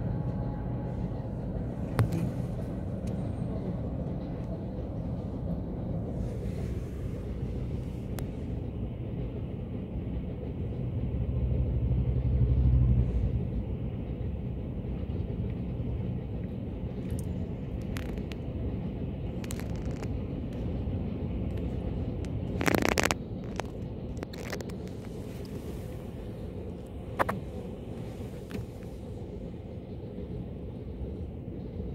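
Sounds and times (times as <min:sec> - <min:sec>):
low vehicle rumble: 0:00.0 - 0:31.9.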